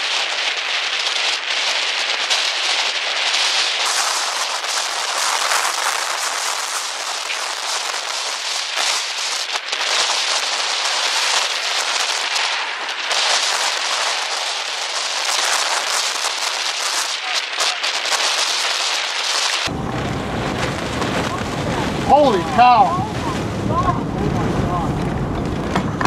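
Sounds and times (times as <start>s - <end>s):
hard rain pattering: 0.0s - 26.0s.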